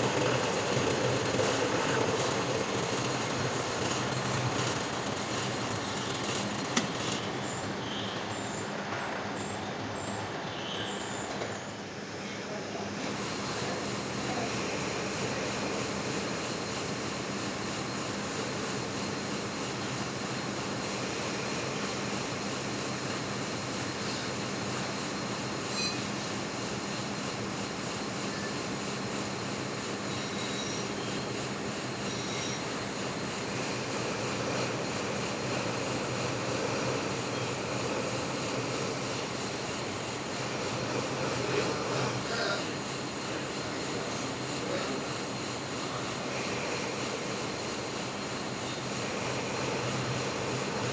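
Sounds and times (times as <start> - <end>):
metal lathe running: 0.0 - 8.6, 12.9 - 50.9.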